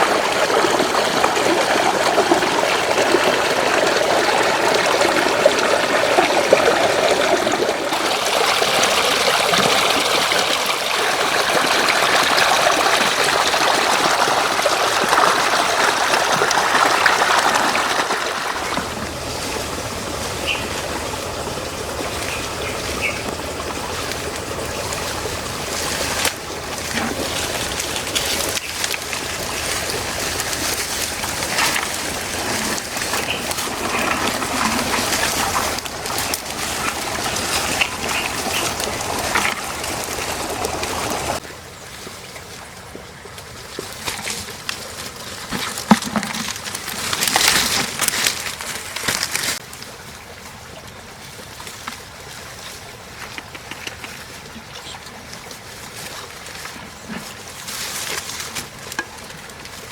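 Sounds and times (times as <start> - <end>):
floodwater running: 0.0 - 59.9.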